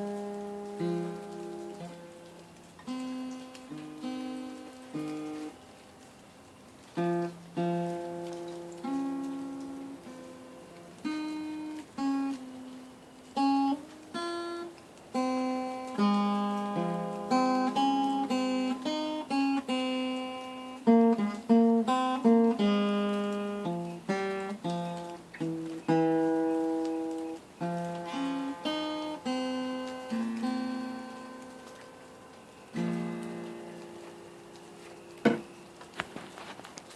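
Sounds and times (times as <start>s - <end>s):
acoustic guitar: 0.0s - 36.9s.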